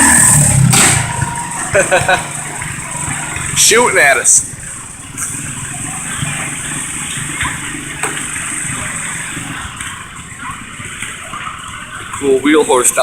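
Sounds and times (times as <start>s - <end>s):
garden tractor engine droning: 0.0s - 13.0s.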